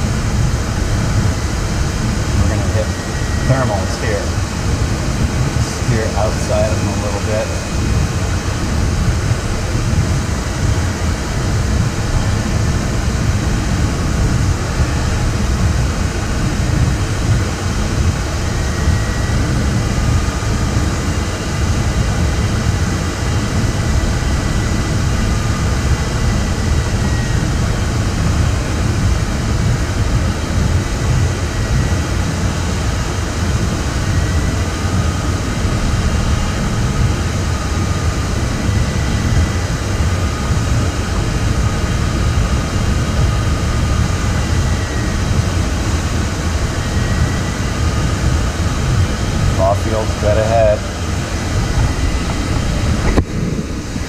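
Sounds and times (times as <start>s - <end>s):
air rushing past cockpit: 0.0s - 54.0s.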